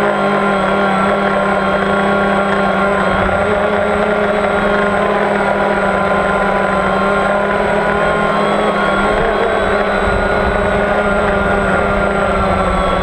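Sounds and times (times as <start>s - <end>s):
model aircraft propellers droning: 0.0s - 13.0s.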